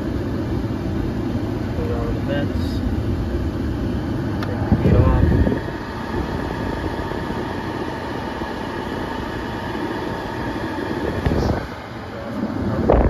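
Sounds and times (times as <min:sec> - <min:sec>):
faint steady whine: 0:00.0 - 0:13.0
heater blower running: 0:00.0 - 0:13.0.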